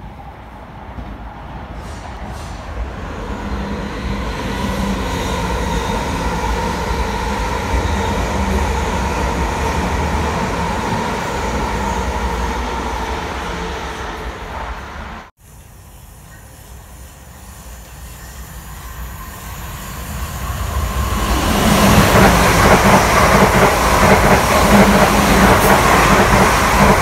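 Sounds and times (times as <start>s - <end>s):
train wheels rushing on rail: 0.0s - 27.0s.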